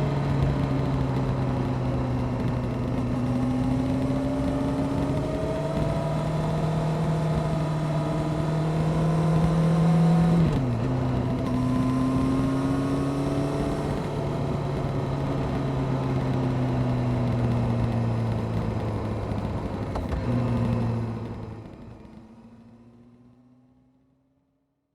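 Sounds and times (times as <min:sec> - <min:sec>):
motorcycle engine running: 0:00.0 - 0:23.7.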